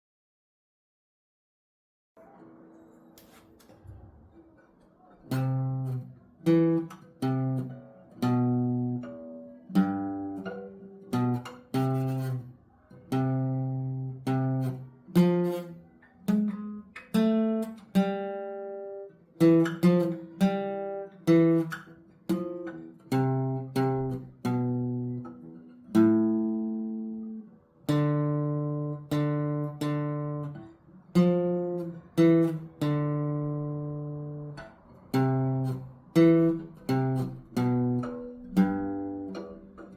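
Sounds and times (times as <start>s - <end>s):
acoustic guitar melody: 2.2s - 39.9s.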